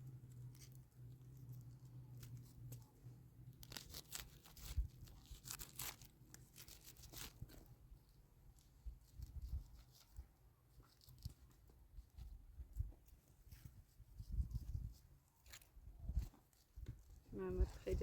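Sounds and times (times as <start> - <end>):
faint crackling and rustling: 0.0 - 18.0
low steady hum: 0.0 - 18.0.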